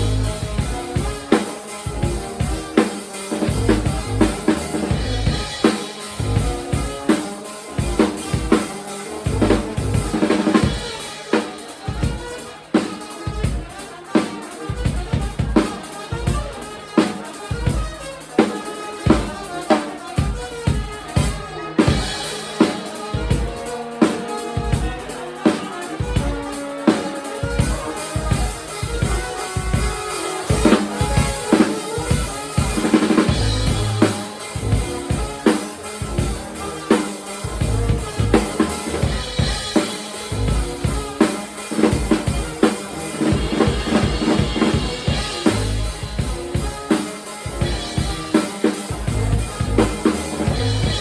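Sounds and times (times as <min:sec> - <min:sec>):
kick and snare drum beat: 0:00.0 - 0:51.0
live band playing: 0:00.0 - 0:51.0.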